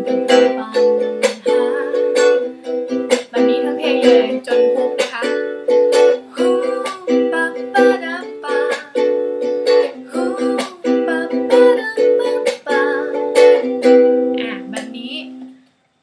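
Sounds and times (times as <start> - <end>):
ukulele strumming: 0.0 - 15.6.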